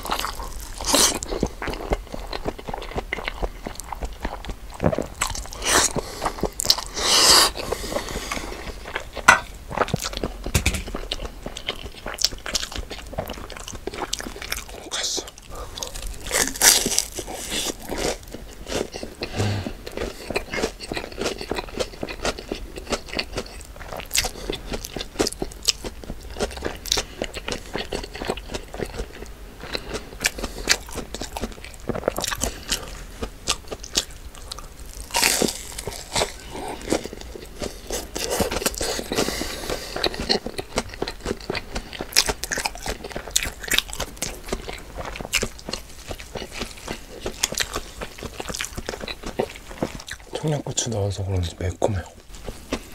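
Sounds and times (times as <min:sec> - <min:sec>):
person chewing crunchy food: 0:00.0 - 0:52.9.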